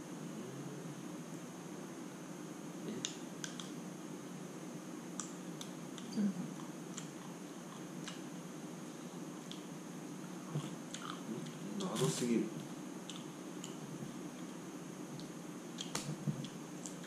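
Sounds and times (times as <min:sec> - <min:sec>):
faint high whine: 0:00.0 - 0:17.0
room hum: 0:00.0 - 0:17.0.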